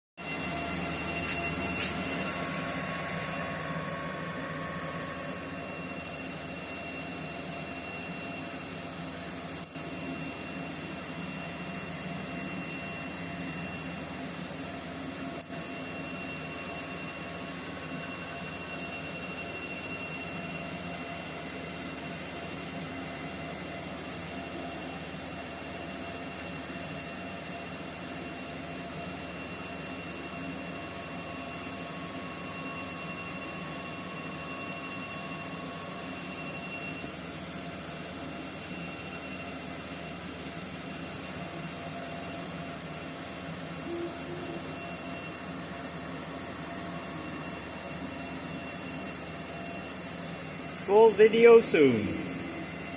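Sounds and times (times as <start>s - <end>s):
cooling fans running: 0.2s - 18.6s, 20.8s - 52.9s.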